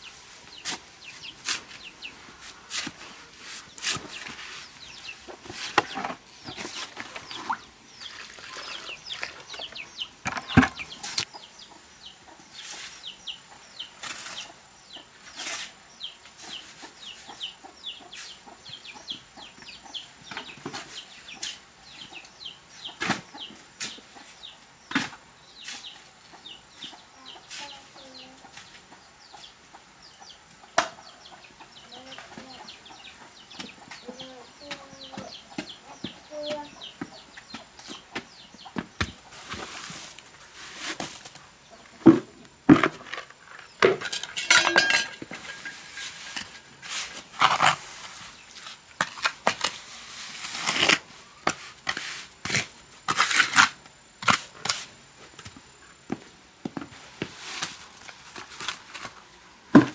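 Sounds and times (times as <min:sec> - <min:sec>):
chickens clucking: 0:00.0 - 0:48.5.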